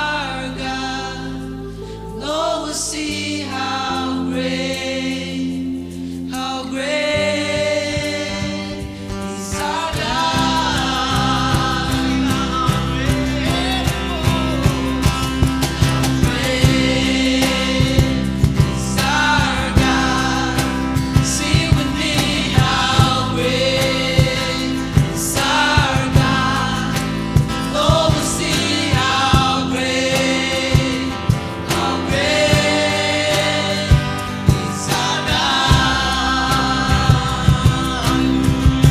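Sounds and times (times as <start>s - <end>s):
bass line: 0.0s - 38.9s
voices singing together: 0.0s - 38.9s
steady drum beat: 7.6s - 38.9s.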